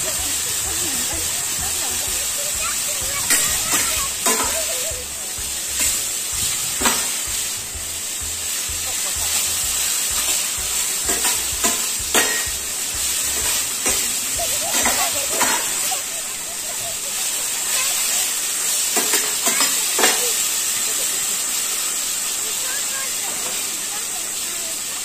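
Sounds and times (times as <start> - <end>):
vegetables sizzling in frying pan: 0.0 - 25.0.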